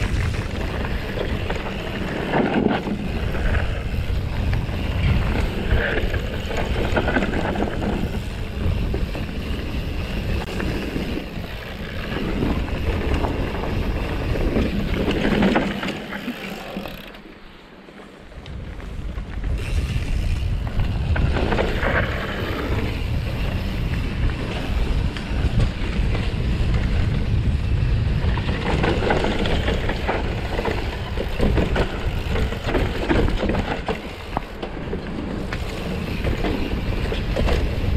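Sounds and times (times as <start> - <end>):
wind rumbling on microphone: 0.0 - 17.1, 18.1 - 37.9
tyre noise on dirt: 0.0 - 17.2, 17.8 - 37.9
bike clattering over bumps: 0.0 - 17.3, 18.7 - 37.9.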